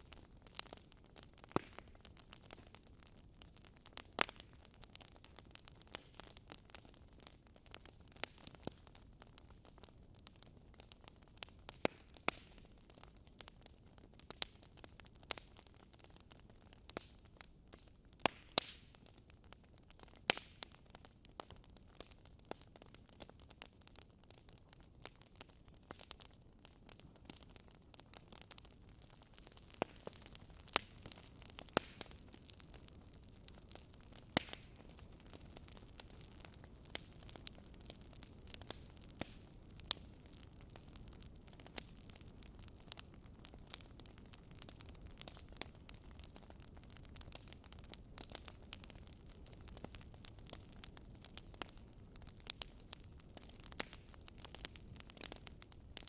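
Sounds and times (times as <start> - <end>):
faint steady hiss: 0.0 - 56.0
wood fire crackling and popping: 0.0 - 56.0.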